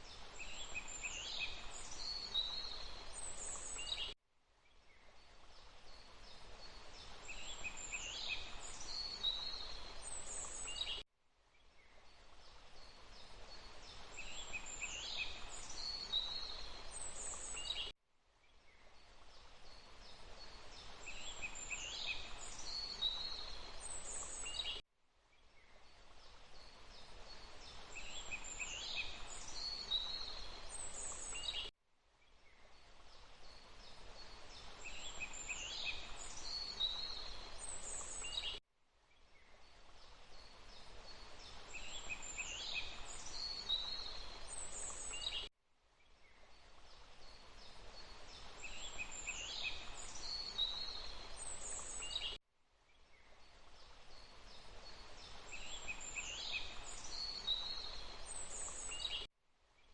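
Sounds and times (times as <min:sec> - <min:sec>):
rushing water: 0:00.0 - 0:04.1, 0:05.2 - 0:11.0, 0:11.8 - 0:17.9, 0:18.8 - 0:24.7, 0:25.8 - 0:31.6, 0:32.7 - 0:38.5, 0:39.6 - 0:45.4, 0:46.4 - 0:52.1, 0:53.4 - 0:59.2
small birds chirping: 0:00.0 - 0:11.0, 0:11.6 - 0:24.8, 0:25.4 - 0:59.9.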